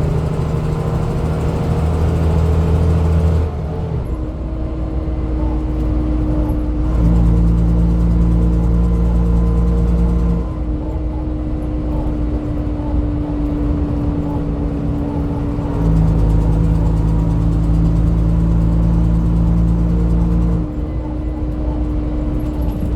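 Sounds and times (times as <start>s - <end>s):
bus engine running: 0.0s - 22.9s.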